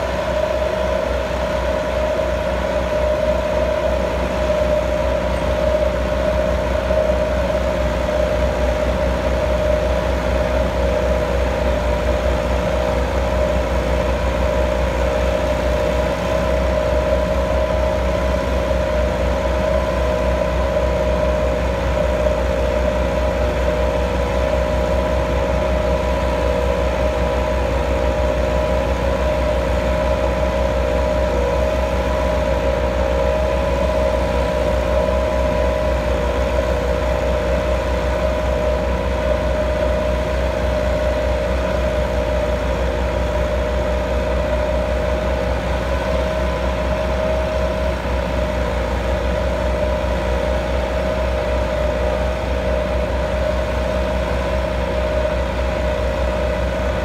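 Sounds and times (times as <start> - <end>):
tractor diesel engines droning: 0.0 - 57.0.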